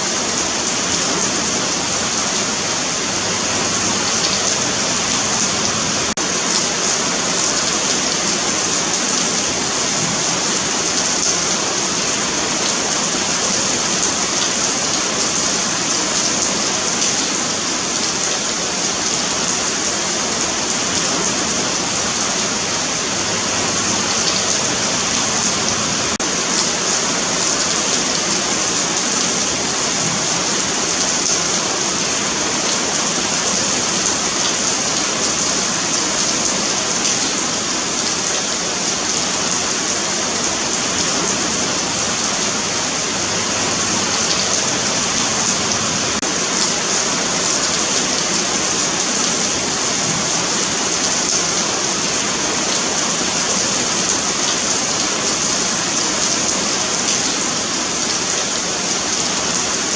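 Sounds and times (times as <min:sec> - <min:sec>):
rain falling on pavement: 0:00.0 - 0:59.9.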